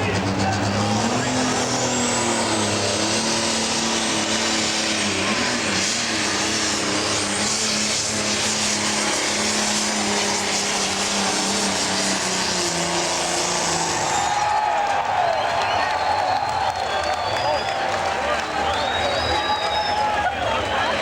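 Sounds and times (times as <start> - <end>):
diesel tractor engine full throttle: 0.0 - 21.0.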